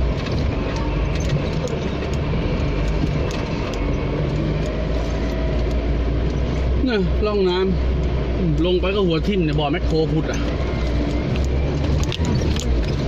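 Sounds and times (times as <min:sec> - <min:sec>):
off-road vehicle rumbling: 0:00.0 - 0:13.0.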